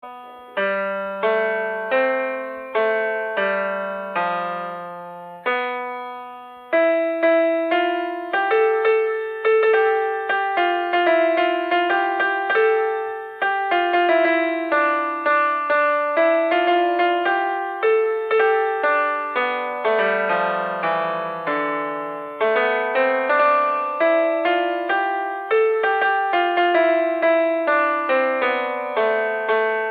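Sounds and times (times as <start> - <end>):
piano-like keyboard melody: 0.0 - 29.9.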